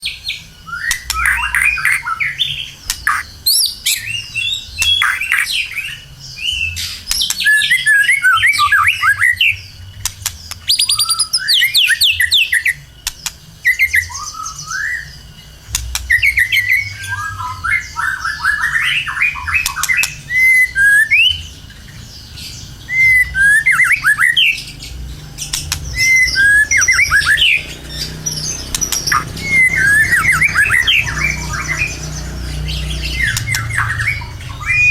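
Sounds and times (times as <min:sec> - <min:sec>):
bird singing whistled phrases: 0:00.0 - 0:09.8, 0:10.4 - 0:21.6, 0:22.2 - 0:34.9.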